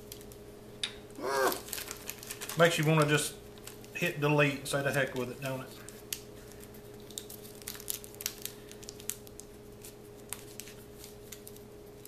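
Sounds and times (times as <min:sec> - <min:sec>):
paper crinkling: 0:01.4 - 0:12.0.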